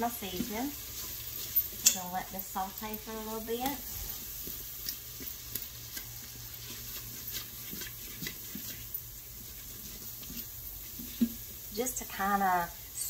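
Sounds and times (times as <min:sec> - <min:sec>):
spatula scraping pot: 0:00.0 - 0:11.7
onions sizzling in butter: 0:00.0 - 0:13.0.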